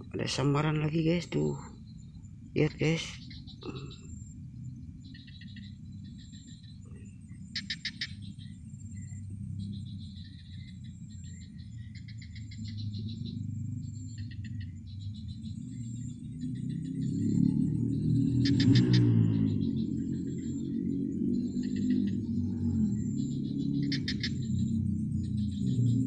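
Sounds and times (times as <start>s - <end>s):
crickets chirping: 0.0s - 26.0s
high insect whine: 0.0s - 26.0s.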